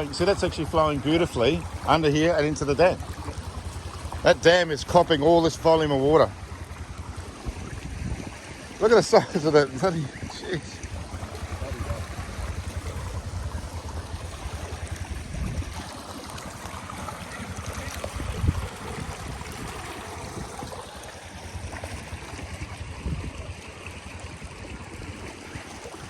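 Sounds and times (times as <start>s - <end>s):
floodwater rushing through a pipe: 0.0s - 26.0s.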